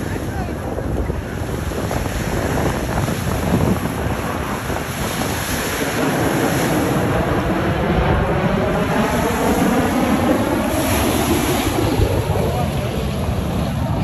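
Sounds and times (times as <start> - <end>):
breaking surf: 0.0 - 14.0
distant jet roar: 0.0 - 14.0
wind buffeting microphone: 0.0 - 14.0.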